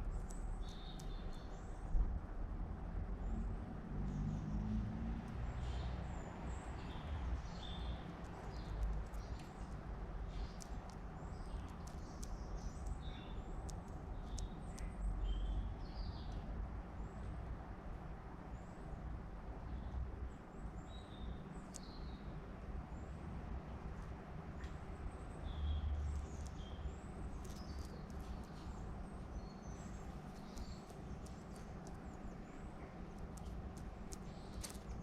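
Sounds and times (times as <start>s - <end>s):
small birds chirping: 0.0s - 2.0s, 5.5s - 35.0s.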